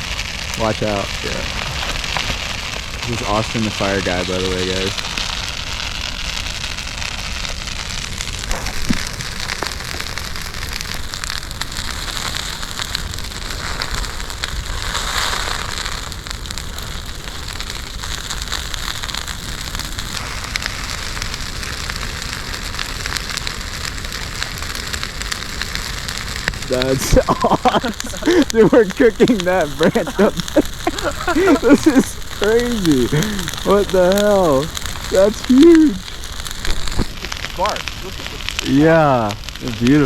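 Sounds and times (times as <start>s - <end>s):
bonfire flames hissing: 0.0s - 40.0s
twigs crackling and popping: 0.0s - 40.0s.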